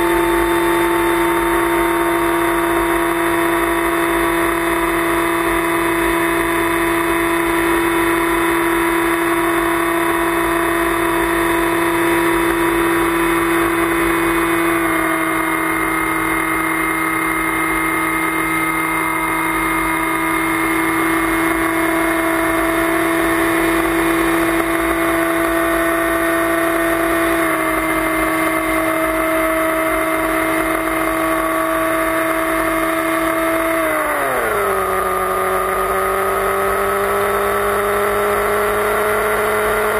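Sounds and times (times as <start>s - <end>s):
electric motor propeller whine: 0.0s - 39.9s.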